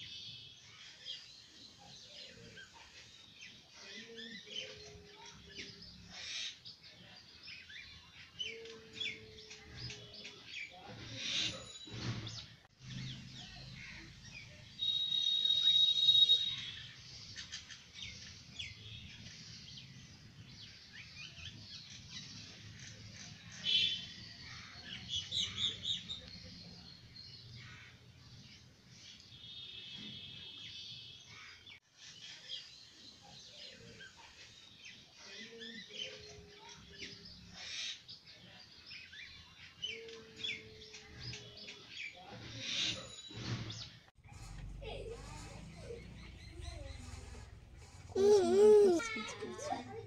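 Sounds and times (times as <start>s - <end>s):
birds chirping and calling: 0.8s - 29.2s, 31.3s - 50.0s.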